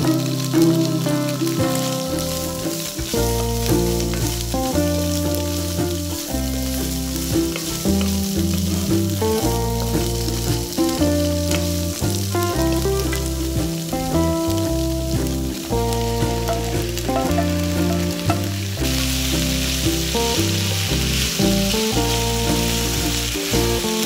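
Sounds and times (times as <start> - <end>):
background music with bass line: 0.0 - 24.0
garlic and peppers sizzling in oil: 0.0 - 24.0
wooden spatula stirring in wok: 0.0 - 24.0.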